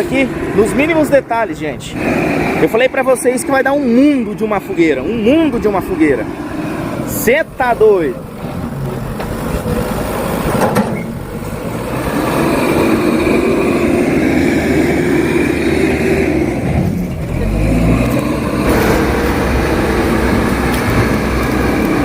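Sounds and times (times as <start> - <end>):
backhoe engine working: 0.0 - 22.0.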